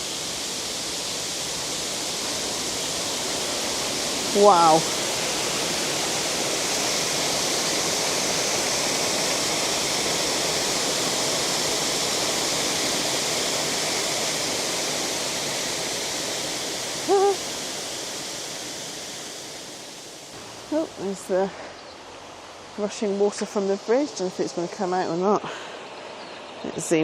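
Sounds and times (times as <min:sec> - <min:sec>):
waterfall roaring: 0:00.0 - 0:25.2.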